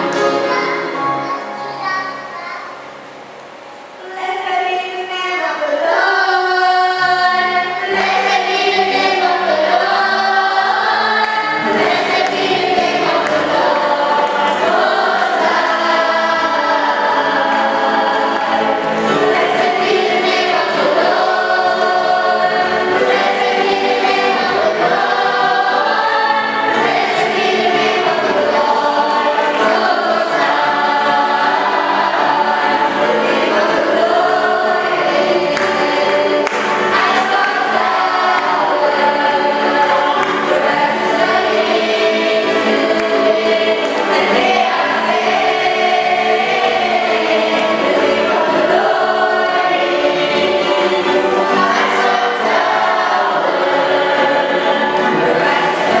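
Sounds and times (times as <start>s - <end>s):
choir singing gospel: 0.0s - 56.0s.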